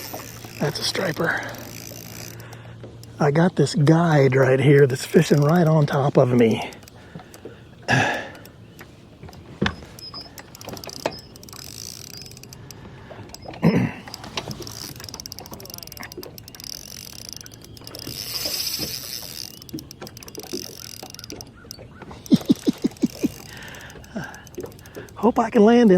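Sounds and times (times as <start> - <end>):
fishing reel clicking: 0.0 - 25.6.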